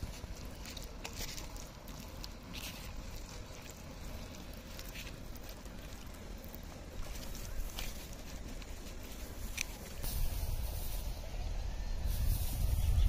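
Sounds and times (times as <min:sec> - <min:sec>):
hands squelching wet paste: 0:00.0 - 0:10.6
steady low rumble: 0:00.0 - 0:13.0.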